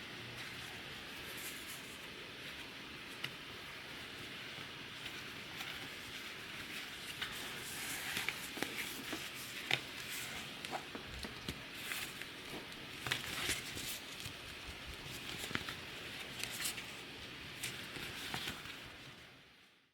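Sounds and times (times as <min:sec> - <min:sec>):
steady hiss: 0:00.0 - 0:19.7
handling rustling: 0:00.4 - 0:18.9.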